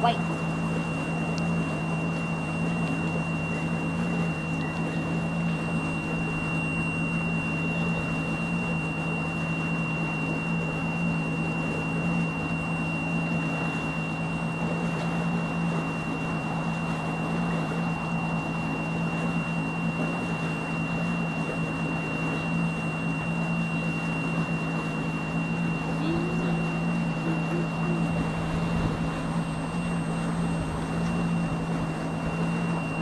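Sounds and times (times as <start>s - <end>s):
high whine: 0.0s - 33.0s
outboard motor humming: 0.0s - 33.0s.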